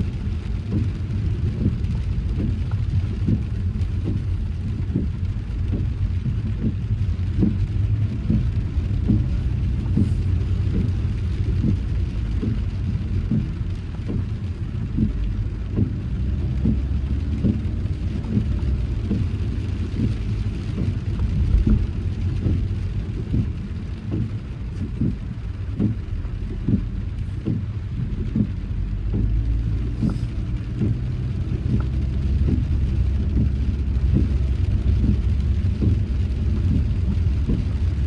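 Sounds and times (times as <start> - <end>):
rain hiss: 0.0 - 38.0
road and engine rumble: 0.0 - 38.0
soft thumps: 1.6 - 34.4.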